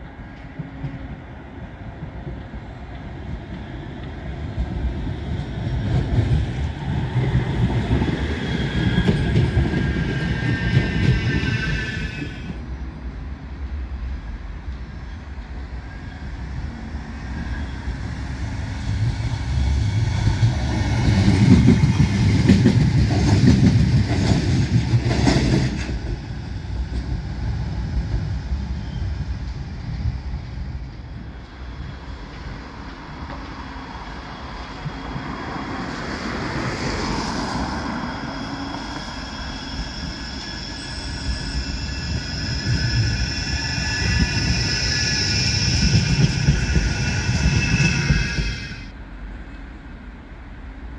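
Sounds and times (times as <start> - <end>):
tram rumble: 0.0 - 50.9.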